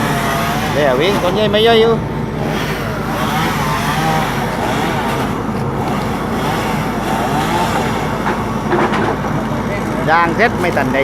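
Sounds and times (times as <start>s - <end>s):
dense noisy background: 0.0s - 11.0s
engine running: 0.0s - 11.0s.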